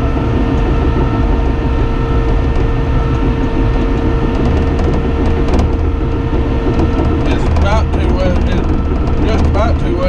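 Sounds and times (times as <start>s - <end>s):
diesel engine under load: 0.0s - 10.0s
steady whine: 0.0s - 10.0s.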